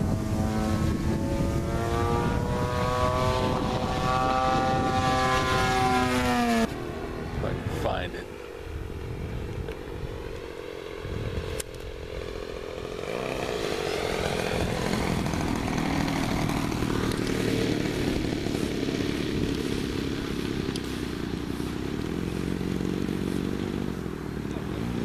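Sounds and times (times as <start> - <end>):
model plane engine running: 0.0 - 25.0.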